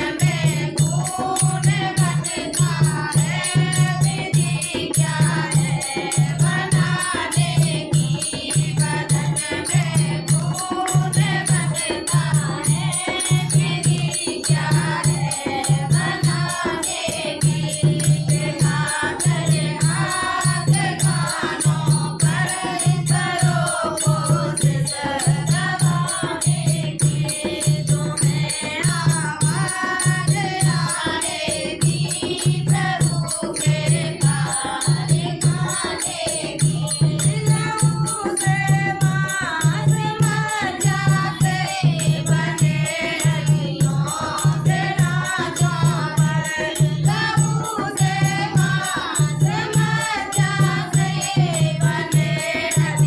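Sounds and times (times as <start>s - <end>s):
rattling percussion: 0.0s - 53.0s
women singing devotional song: 0.0s - 53.0s.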